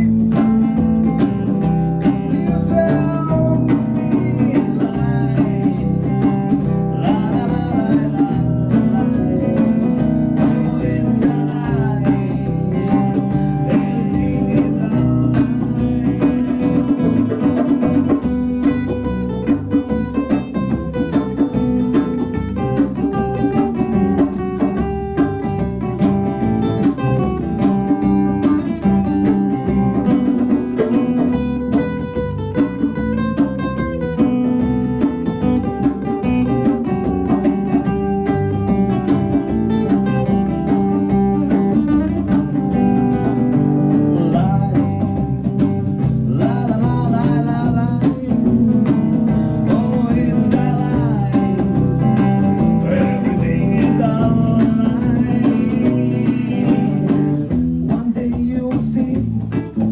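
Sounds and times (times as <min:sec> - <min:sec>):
live instrumental band: 0:00.0 - 0:59.9.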